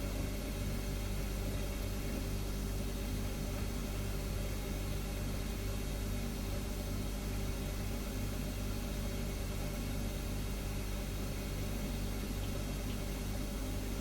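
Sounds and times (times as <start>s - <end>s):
refrigerator humming: 0.0s - 14.0s.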